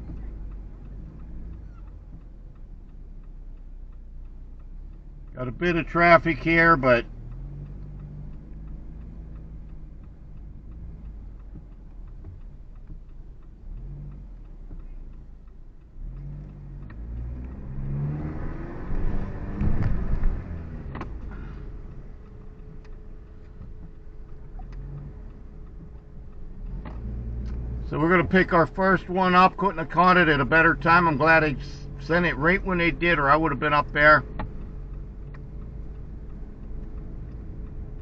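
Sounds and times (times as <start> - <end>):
car engine and road noise: 0.0 - 38.0
sharp clicks: 0.0 - 38.0
vehicle accelerating: 0.0 - 38.0.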